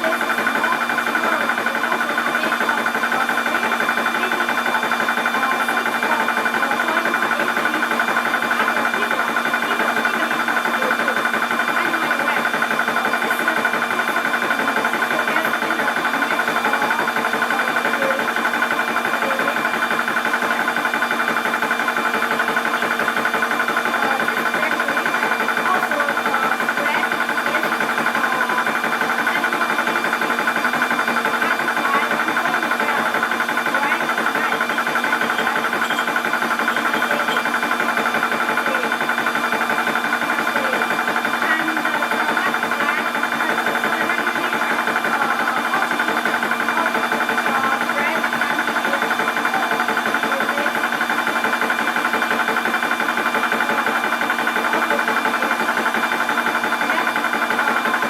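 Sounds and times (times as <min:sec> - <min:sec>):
air compressor droning: 0:00.0 - 0:58.0.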